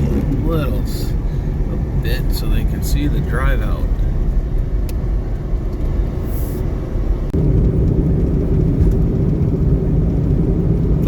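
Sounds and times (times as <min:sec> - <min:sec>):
engine and road noise: 0:00.0 - 0:11.0.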